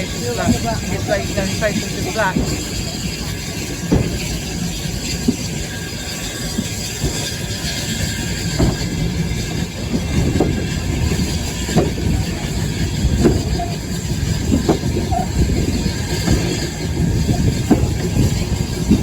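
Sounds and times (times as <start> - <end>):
railway coach rumbling: 0.0 - 19.0
wheels knocking on rail joints: 0.0 - 19.0.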